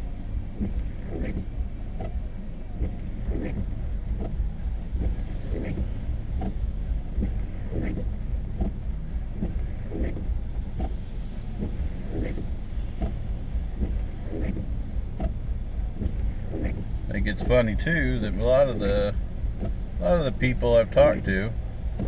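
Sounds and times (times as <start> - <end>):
engine and tyre drone: 0.0 - 22.0
windshield wipers sweeping: 0.0 - 22.0.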